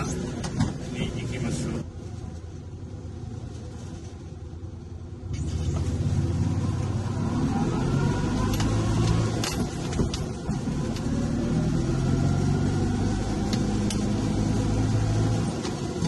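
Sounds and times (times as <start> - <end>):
small car engine rumbling: 0.0 - 16.0.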